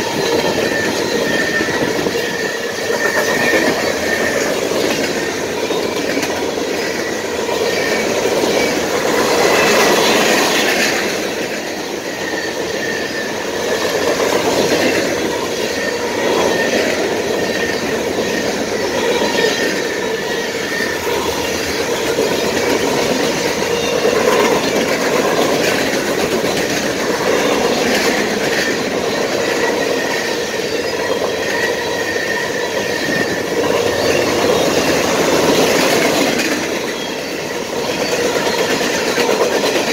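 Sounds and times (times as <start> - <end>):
high wheel squeal: 0.0 - 39.9
steel wheels rolling on rail: 0.0 - 39.9.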